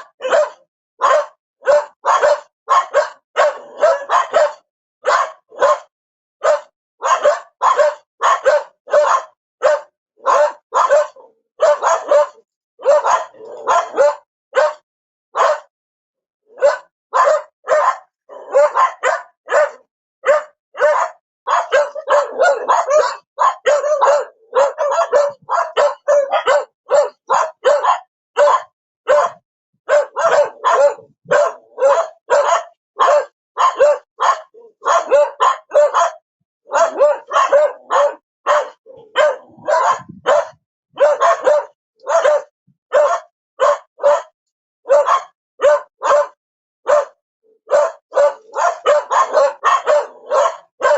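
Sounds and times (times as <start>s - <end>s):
dog barking: 0.0s - 15.8s, 16.5s - 50.9s.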